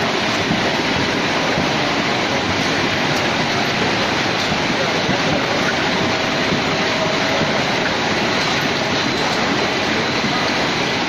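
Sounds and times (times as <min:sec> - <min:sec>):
machinery rushing din: 0:00.0 - 0:11.0.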